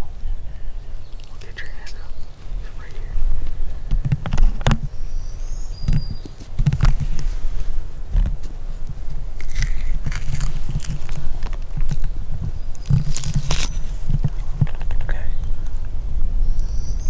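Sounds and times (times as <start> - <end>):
rustles: 0.0 - 17.0
steady low rumble: 0.0 - 17.0.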